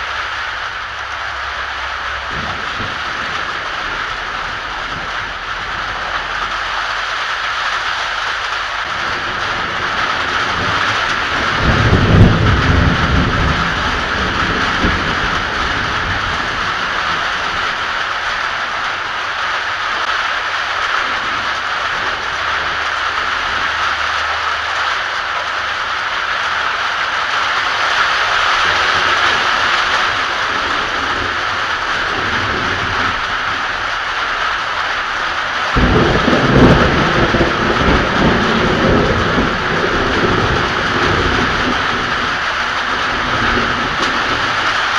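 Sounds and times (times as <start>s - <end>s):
heavy rain pouring: 0.0s - 44.9s
thunder rumble: 0.0s - 44.9s.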